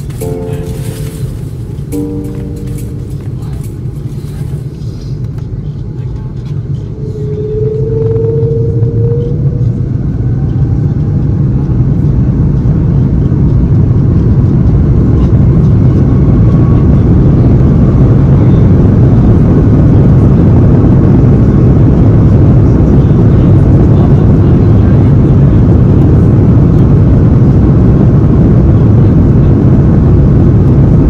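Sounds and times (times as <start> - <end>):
jet engines rumbling: 0.0 - 31.0
short engine whine: 0.0 - 31.0.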